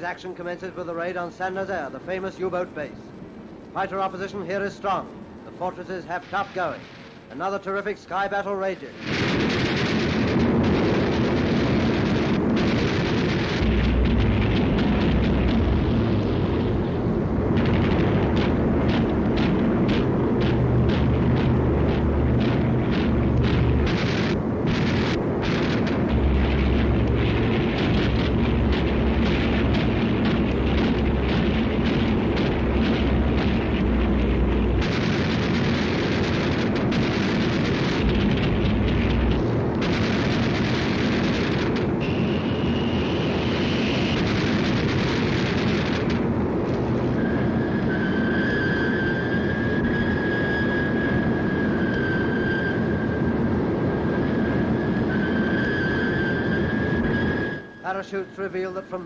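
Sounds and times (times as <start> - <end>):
aircraft engines rumbling: 0.0 - 59.0
high steady whine: 0.0 - 59.0
rapid crackling bursts: 0.0 - 59.0
explosion blasts: 3.8 - 7.6, 8.8 - 59.0.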